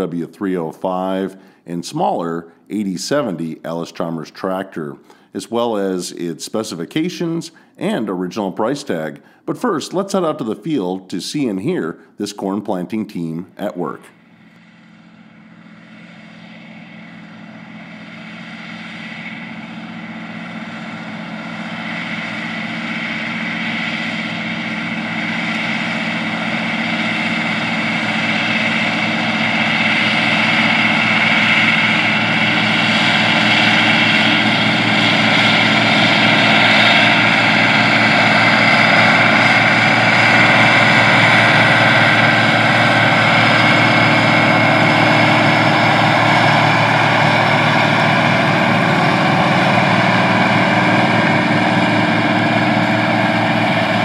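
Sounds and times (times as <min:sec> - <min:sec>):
tractor diesel engine under load: 0:00.0 - 0:12.1, 0:12.8 - 0:54.0.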